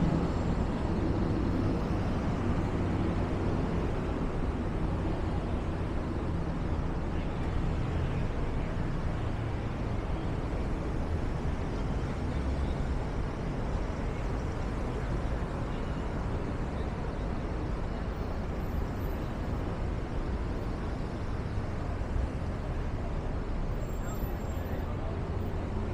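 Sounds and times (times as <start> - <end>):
traffic rumble: 0.0 - 25.9.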